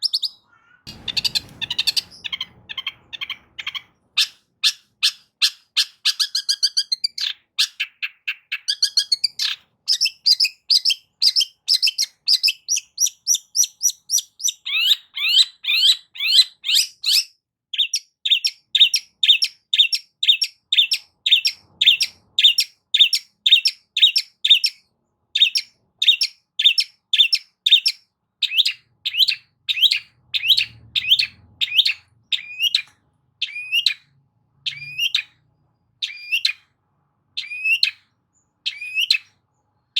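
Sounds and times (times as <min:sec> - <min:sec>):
bird singing sharp repeated notes: 0:00.0 - 0:24.8, 0:25.4 - 0:36.7, 0:37.3 - 0:39.9.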